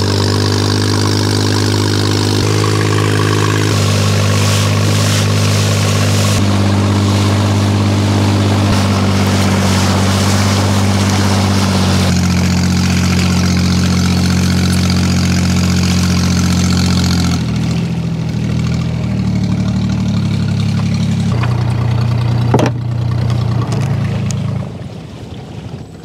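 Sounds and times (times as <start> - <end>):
small boat engine running: 0.0 - 26.0.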